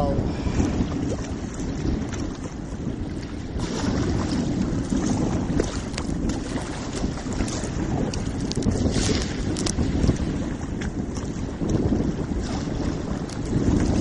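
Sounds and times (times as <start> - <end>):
sea water splashing: 0.0 - 14.0
wind buffeting microphone: 0.0 - 14.0.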